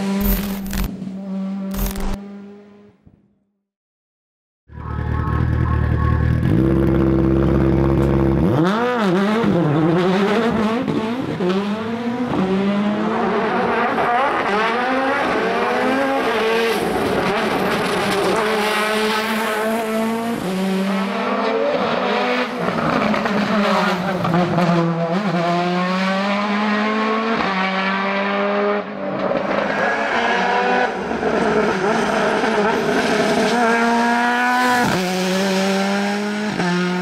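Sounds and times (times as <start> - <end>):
race car engine revving: 4.8 - 37.0.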